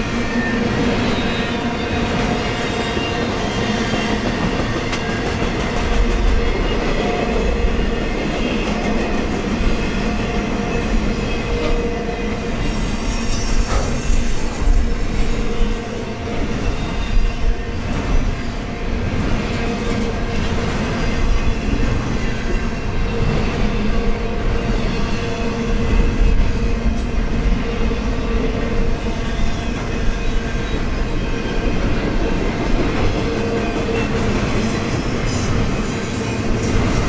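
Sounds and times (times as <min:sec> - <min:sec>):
steel wheels rumbling on rails: 0:00.0 - 0:37.0.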